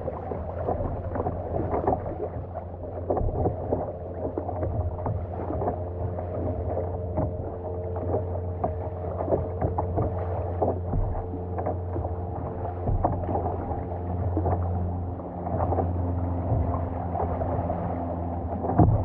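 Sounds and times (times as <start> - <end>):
paddle splashing in water: 0.0 - 19.0
steady low hum: 0.0 - 19.0
water washing against hull: 0.0 - 19.0.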